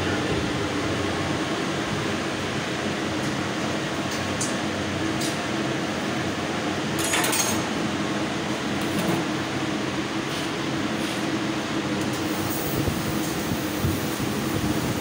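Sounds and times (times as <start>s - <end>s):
fan noise: 0.0s - 15.0s.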